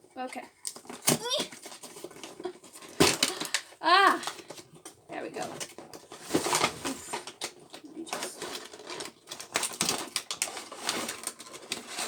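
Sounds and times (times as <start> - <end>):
packaging clicks taps and rustles: 0.6 - 12.0.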